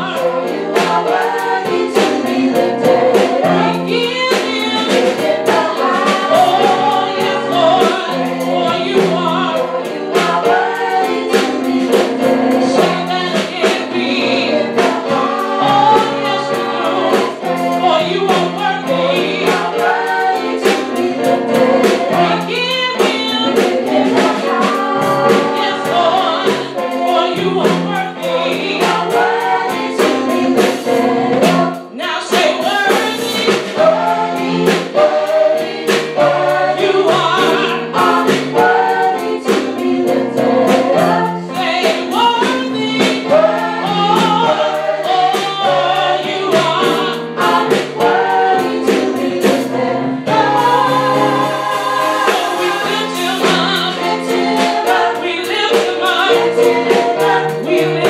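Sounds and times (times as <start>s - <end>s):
music with steady beat: 0.0s - 58.0s
women singing gospel song: 0.0s - 58.0s.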